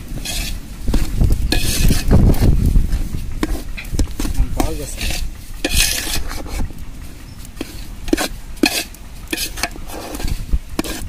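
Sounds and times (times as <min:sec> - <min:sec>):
metal ladle scraping a metal pot: 0:00.0 - 0:06.7, 0:07.3 - 0:11.0.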